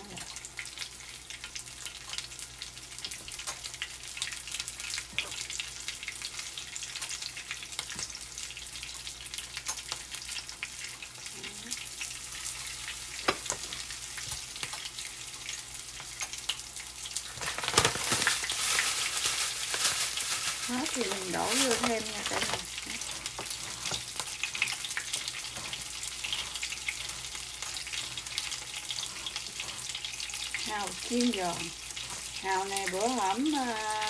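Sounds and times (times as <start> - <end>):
crackles and pops: 0.0 - 34.0
oysters sizzling in oil: 0.0 - 34.0.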